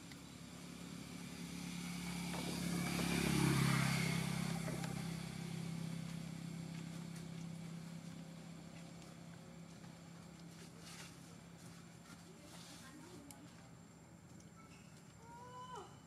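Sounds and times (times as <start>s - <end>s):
vehicle engine hum passing by: 0.0s - 13.3s.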